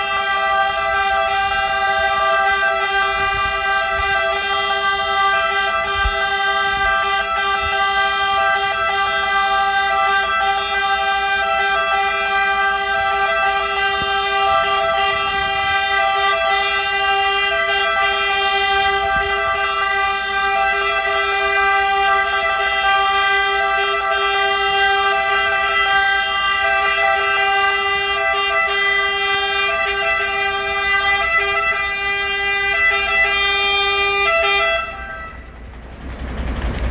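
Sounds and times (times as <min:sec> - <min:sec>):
fire engine horns chord: 0:00.0 - 0:36.1.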